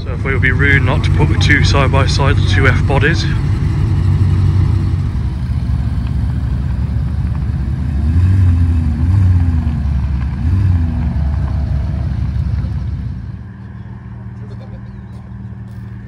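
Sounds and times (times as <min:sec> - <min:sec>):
car engine idling: 0:00.0 - 0:16.0
engine throttle blips: 0:00.0 - 0:16.0.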